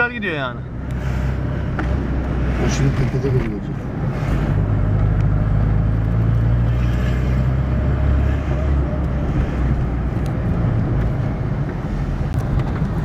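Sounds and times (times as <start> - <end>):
road noise inside car: 0.0 - 13.0.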